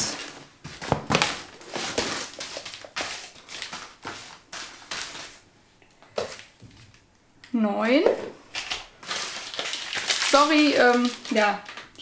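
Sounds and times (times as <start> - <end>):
packaging rustling and crinkling: 0.0 - 5.4, 6.0 - 7.0, 8.5 - 12.0.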